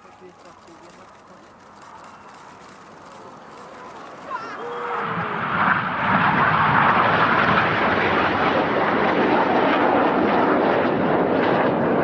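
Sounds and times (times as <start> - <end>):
jet engines flying past: 0.0 - 12.0.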